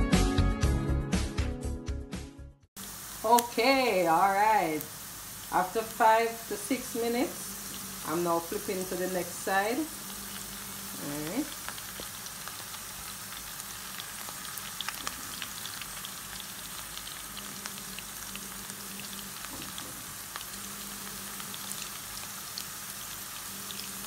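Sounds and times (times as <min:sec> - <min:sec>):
chicken sizzling in oil: 0:02.8 - 0:24.0.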